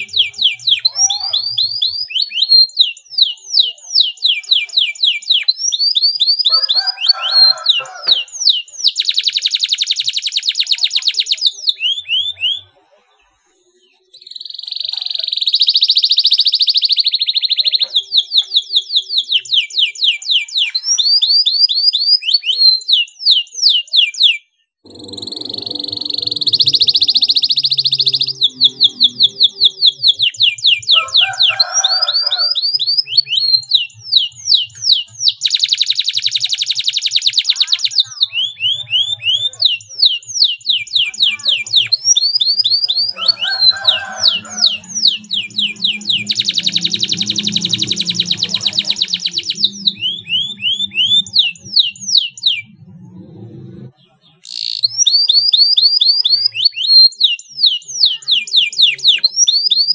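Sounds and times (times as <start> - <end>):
canary singing trilled song: 0.0 - 53.2, 53.8 - 59.9.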